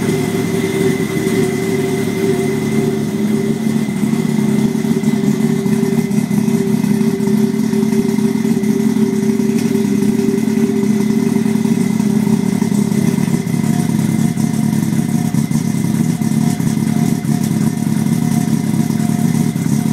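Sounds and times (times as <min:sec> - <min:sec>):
rotary engine idling: 0:00.0 - 0:19.9.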